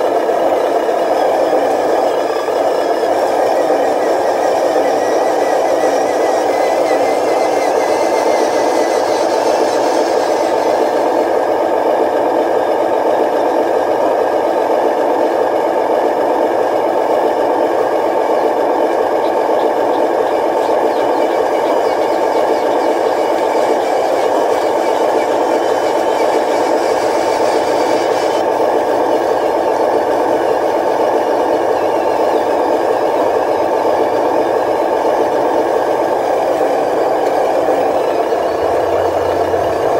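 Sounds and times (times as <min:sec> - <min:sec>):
toy truck motor drone: 0:00.0 - 0:39.9.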